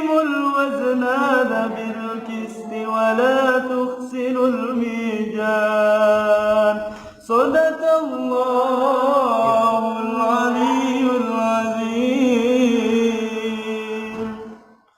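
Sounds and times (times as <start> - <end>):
person reciting melodically: 0.0 - 14.7.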